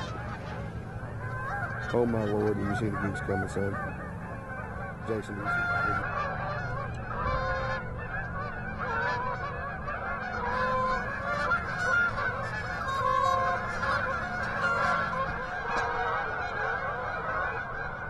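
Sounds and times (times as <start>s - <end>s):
geese honking: 0.0s - 18.0s.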